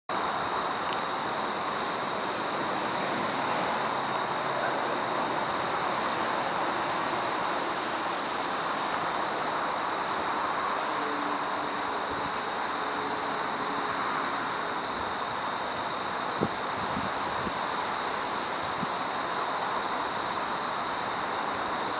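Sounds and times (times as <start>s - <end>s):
high-pitched drone: 0.1s - 20.2s
distant freight train rumble: 0.1s - 21.9s
faint locomotive engine tones: 0.1s - 21.9s.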